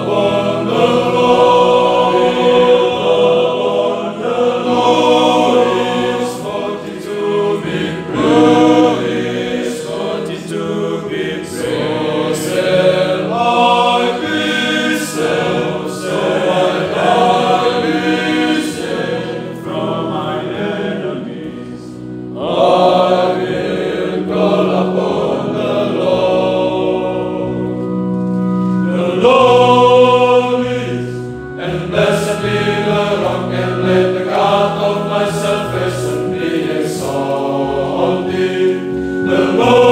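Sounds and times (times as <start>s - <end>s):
male choir singing: 0.0s - 39.9s.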